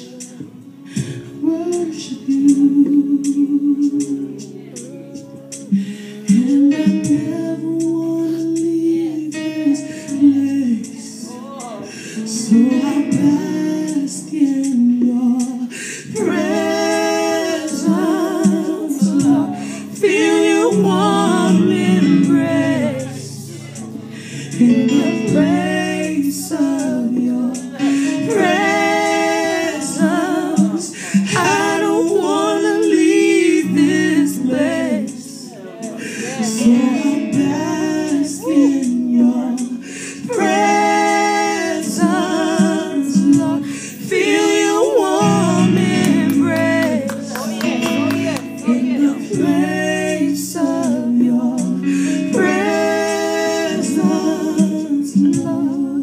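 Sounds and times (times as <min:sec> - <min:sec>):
instrumental backing: 0:00.0 - 0:56.0
person singing worship song: 0:00.0 - 0:56.0.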